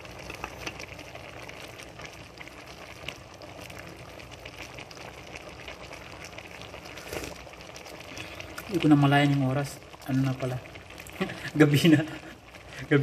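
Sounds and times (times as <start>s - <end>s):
pot bubbling with small pops: 0.0s - 13.0s.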